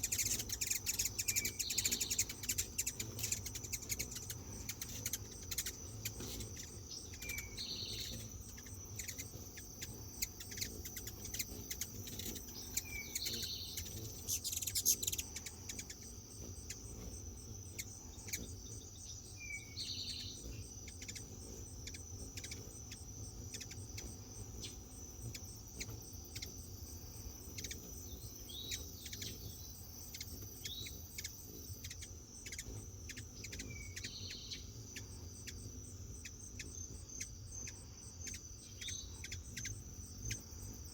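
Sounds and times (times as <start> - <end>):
high insect trill: 0.0 - 40.9
hummingbirds chattering: 0.0 - 40.9.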